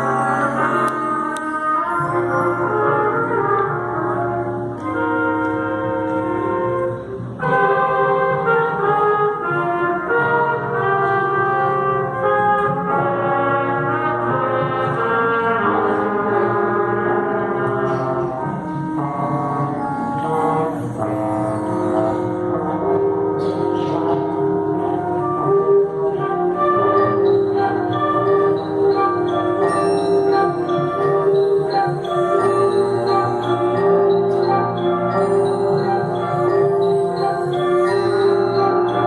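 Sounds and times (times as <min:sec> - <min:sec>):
brass ensemble playing slow chords: 0:00.0 - 0:39.0.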